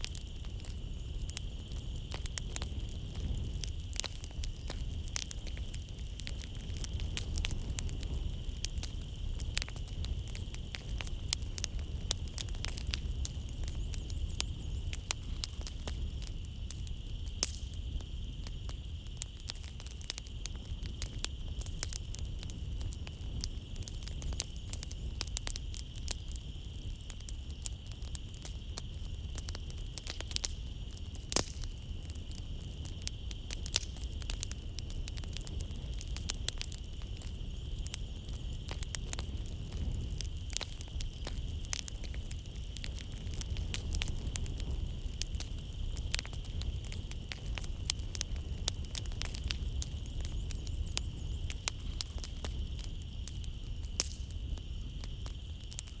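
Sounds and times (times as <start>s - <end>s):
high-pitched night insect drone: 0.0s - 56.0s
wood fire crackling: 0.0s - 56.0s.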